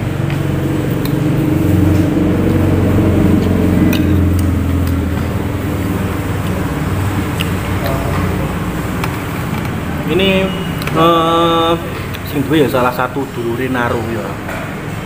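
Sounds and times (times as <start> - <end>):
heavy vehicle passing: 0.0 - 15.0
road traffic rumbling: 0.0 - 15.0.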